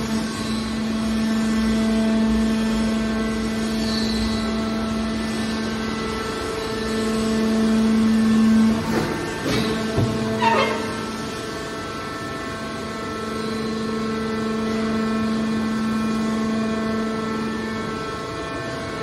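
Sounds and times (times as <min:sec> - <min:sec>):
hydraulic motor and pump drone: 0:00.0 - 0:19.0.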